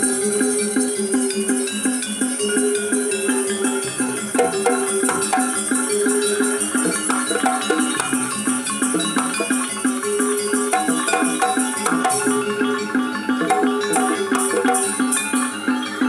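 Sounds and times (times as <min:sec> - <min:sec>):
pitched metal percussion: 0:00.0 - 0:16.0
small cymbals rattling: 0:00.0 - 0:16.0.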